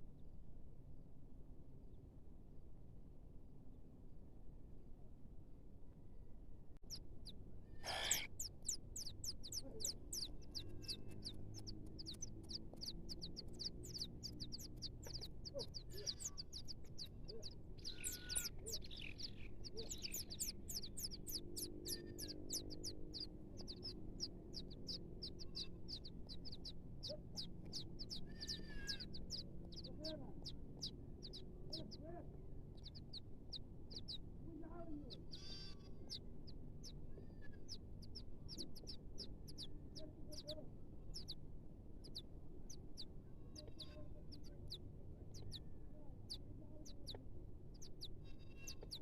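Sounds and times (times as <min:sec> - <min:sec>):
nestling birds cheeping: 0:06.9 - 0:32.1, 0:35.0 - 0:49.0.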